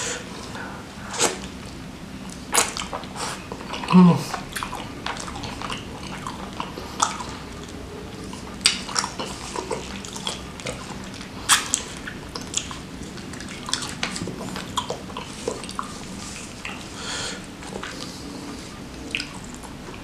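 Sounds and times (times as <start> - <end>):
wet chewing and sucking: 0.0 - 20.0.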